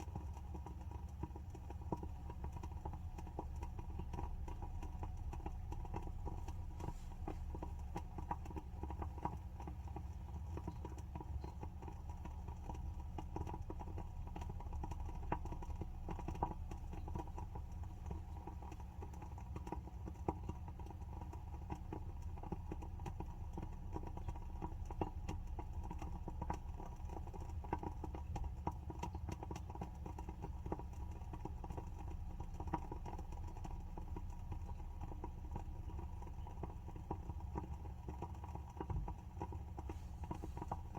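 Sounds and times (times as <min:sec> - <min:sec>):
steady low hum: 0:00.0 - 0:40.9
wooden candle wick crackling: 0:00.0 - 0:40.9.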